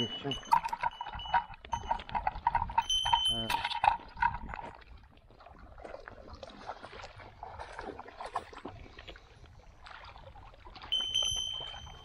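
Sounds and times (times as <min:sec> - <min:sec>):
water splashing at shore: 0:00.0 - 0:12.0
wind rumbling on microphone: 0:00.0 - 0:12.0.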